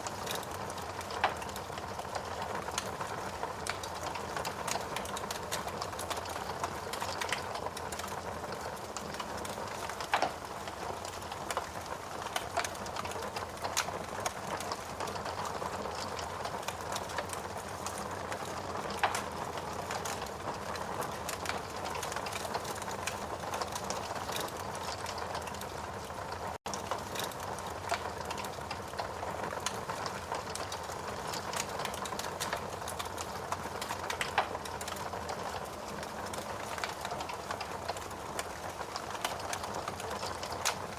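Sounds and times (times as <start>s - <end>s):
steady rain: 0.0s - 40.9s
wood fire crackling and popping: 0.0s - 40.9s.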